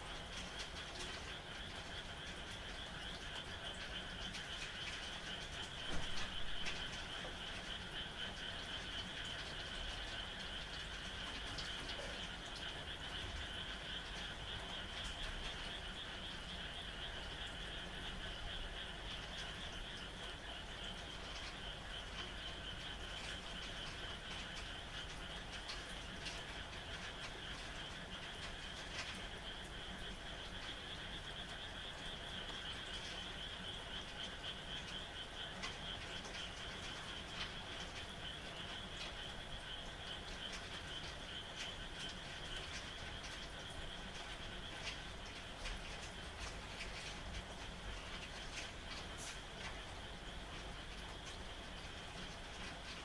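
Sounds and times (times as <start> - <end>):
frogs trilling: 0.0 - 53.0
rain falling: 0.0 - 53.0.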